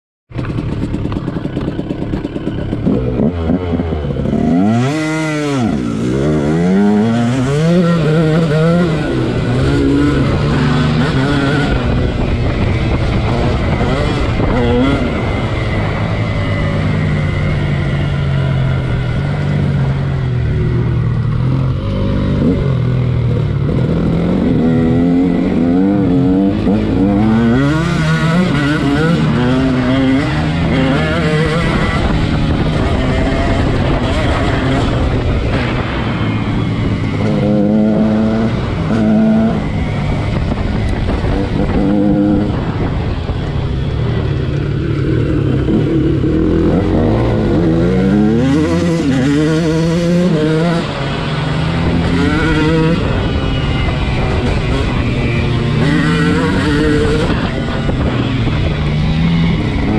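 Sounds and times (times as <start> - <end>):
motorcycle engine revving: 0.3 - 59.9.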